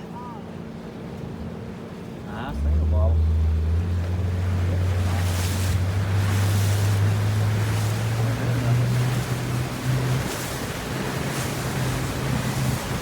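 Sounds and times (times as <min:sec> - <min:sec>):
motorboat engine humming: 0:00.0 - 0:13.0
water rushing past hull: 0:00.0 - 0:13.0
wind buffeting microphone: 0:02.5 - 0:13.0.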